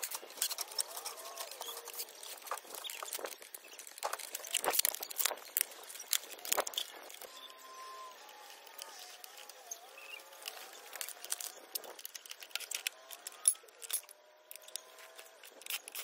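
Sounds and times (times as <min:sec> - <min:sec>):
plastic and metal parts clattering: 0:00.0 - 0:16.0.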